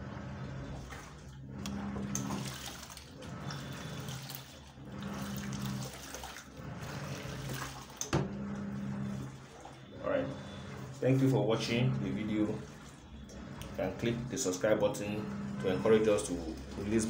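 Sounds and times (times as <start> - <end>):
washing machine motor humming: 0.0 - 17.0
water sloshing in drum: 0.0 - 17.0.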